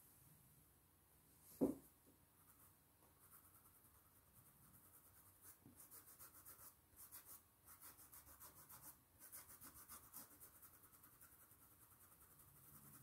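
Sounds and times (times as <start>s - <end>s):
pencil scratching on fabric: 2.4s - 13.0s.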